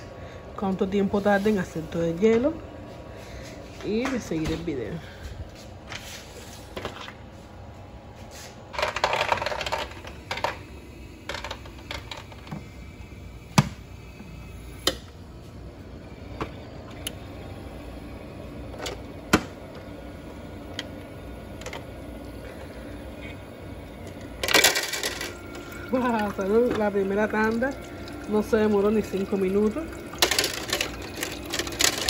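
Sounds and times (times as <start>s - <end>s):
ice maker humming: 0.0s - 32.0s.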